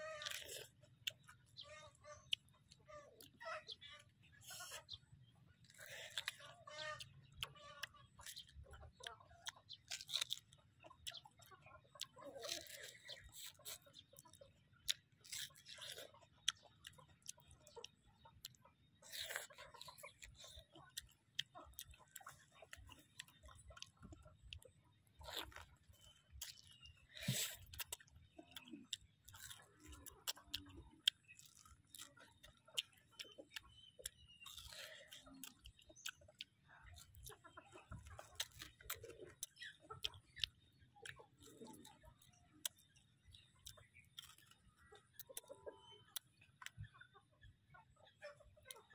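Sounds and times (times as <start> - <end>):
biting into mango: 0.0 - 5.0, 5.6 - 46.8
soft chewing: 0.0 - 48.9.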